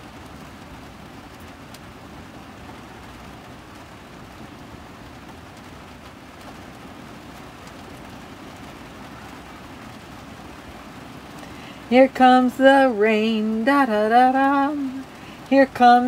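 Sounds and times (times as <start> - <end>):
rain on a roof: 0.0 - 16.0.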